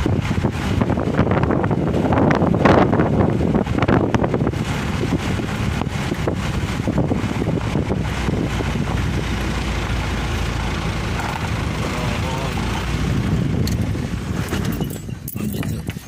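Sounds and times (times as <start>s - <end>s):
engine and road noise: 0.0s - 16.0s.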